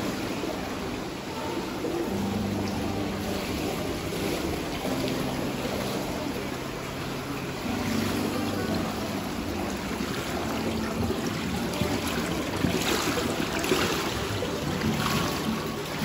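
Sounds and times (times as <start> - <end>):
pool water splashing: 0.0 - 16.0
water trickling into grate: 0.0 - 16.0.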